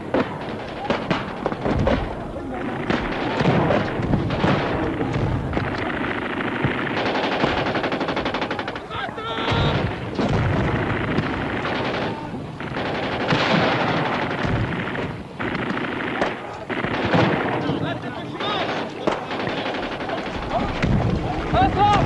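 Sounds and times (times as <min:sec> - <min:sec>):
automatic gunfire bursts: 0:00.0 - 0:08.9, 0:09.5 - 0:20.9
scattered gunshots: 0:00.0 - 0:22.0.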